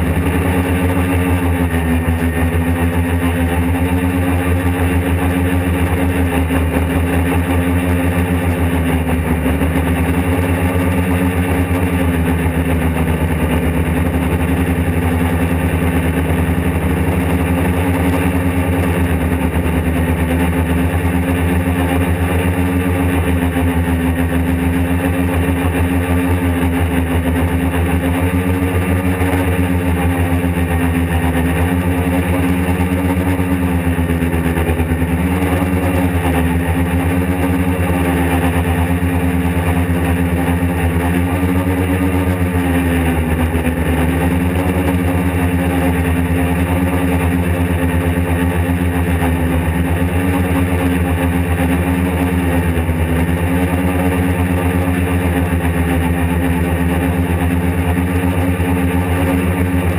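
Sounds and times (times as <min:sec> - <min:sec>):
quadcopter propellers whirring: 0:00.0 - 0:59.9.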